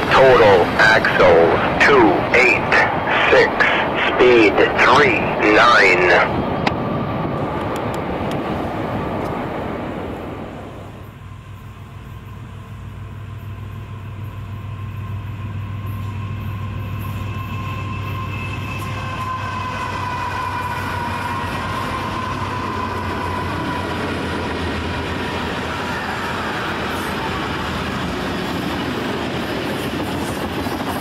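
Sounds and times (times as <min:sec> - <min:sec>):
diesel train rumbling: 0:00.0 - 0:31.0.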